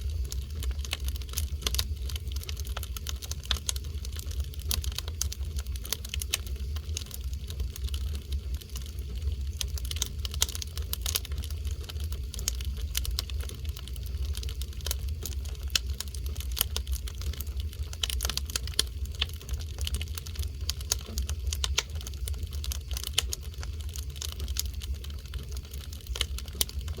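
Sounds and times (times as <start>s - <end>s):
fire pops and snaps: 0.0s - 27.0s
log fire crackling: 0.0s - 27.0s.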